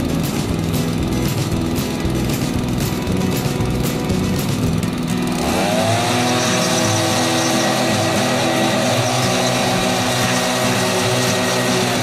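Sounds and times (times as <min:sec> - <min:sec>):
crane engine running: 0:00.0 - 0:12.0
handheld blower whining: 0:00.0 - 0:12.0.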